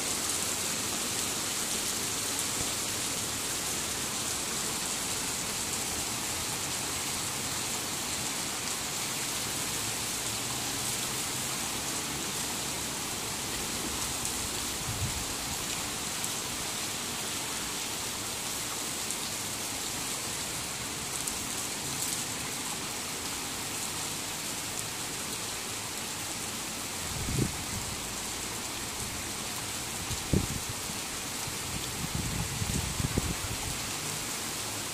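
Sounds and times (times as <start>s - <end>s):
heavy rain on pavement: 0.0s - 34.9s.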